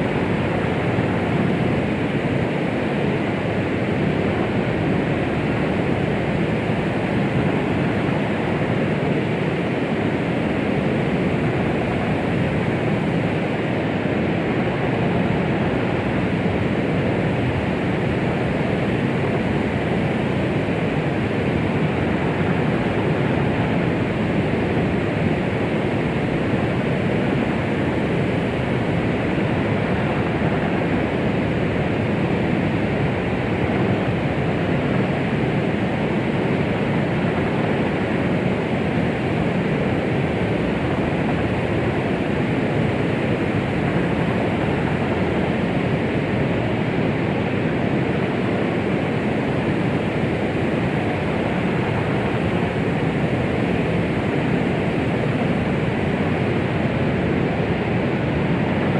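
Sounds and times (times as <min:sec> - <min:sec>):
rushing white noise hiss: 0:00.0 - 0:58.9.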